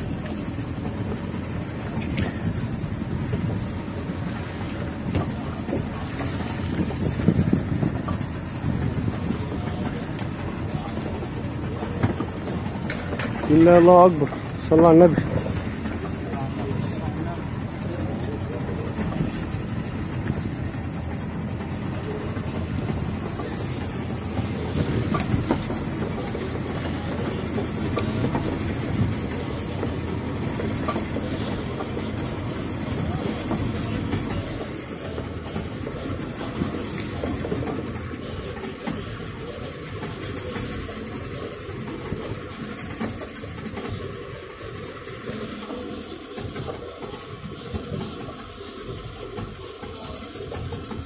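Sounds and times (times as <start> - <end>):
boat engine idling: 0.0 - 51.0.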